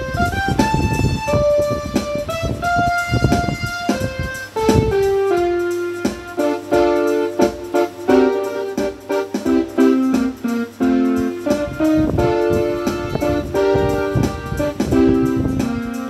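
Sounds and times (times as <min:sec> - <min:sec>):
electronic keyboard melody: 0:00.0 - 0:16.0
steady low hum: 0:00.0 - 0:16.0.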